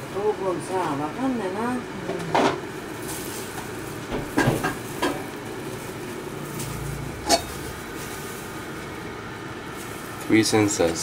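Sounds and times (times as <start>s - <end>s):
induction cooktop hiss and hum: 0.0s - 11.0s.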